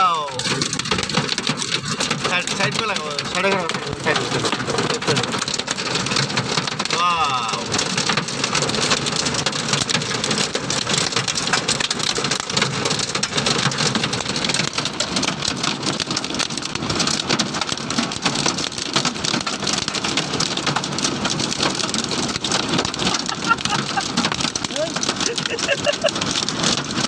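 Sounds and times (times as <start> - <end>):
rain and hail drumming on a car: 0.0 - 27.0.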